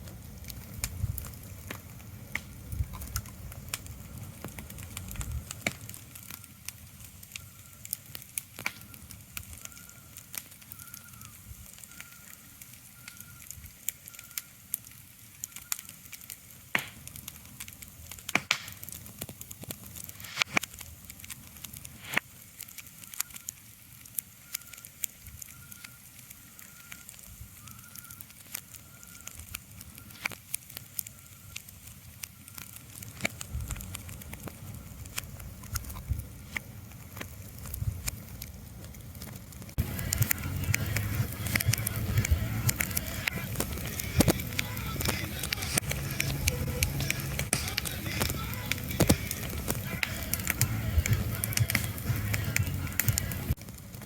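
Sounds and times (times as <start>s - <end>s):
crackling clicks and pops: 0.0s - 54.0s.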